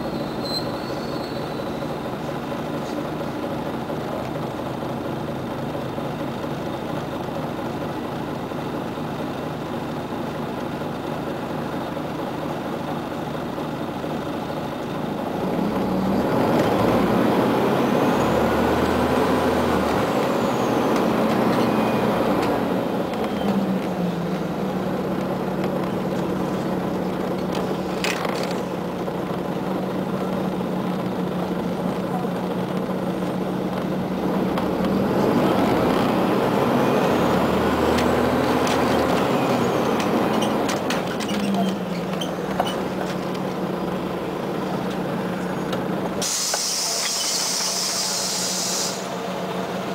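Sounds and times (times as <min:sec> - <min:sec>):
bus engine idling and accelerating: 0:00.0 - 0:49.9.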